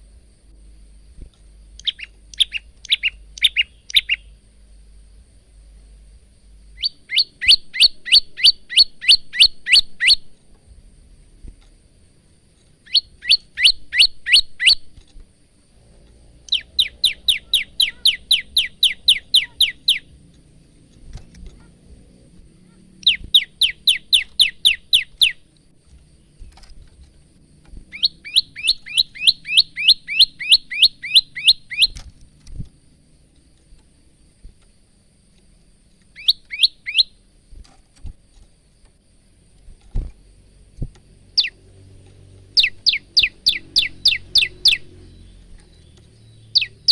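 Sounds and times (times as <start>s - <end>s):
songbird chirping trills: 0.0s - 46.9s.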